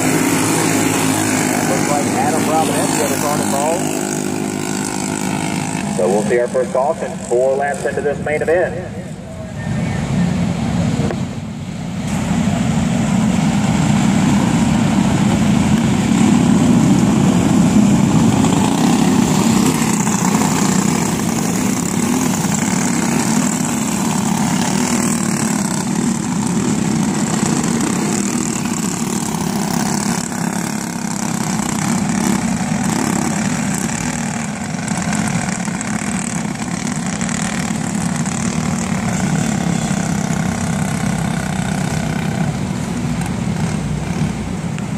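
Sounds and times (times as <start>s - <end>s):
kart engines running together: 0.0s - 11.2s, 12.1s - 44.9s.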